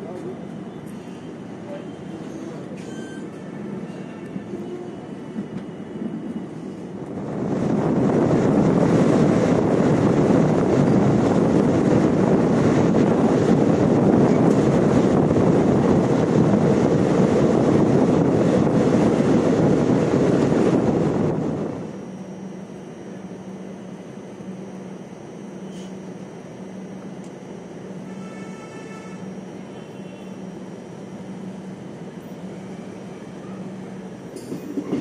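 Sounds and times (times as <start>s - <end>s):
moving train rushing: 0.0s - 35.0s.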